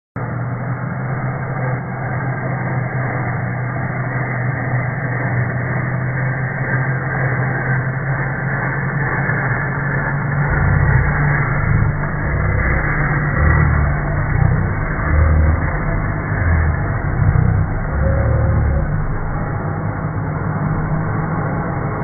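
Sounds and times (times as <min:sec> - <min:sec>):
steady mechanical hum: 0:00.2 - 0:22.0.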